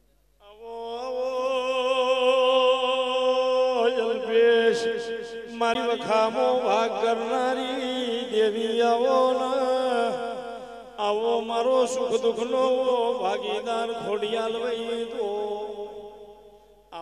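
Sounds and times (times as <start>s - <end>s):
man singing a chant: 0.4s - 17.0s.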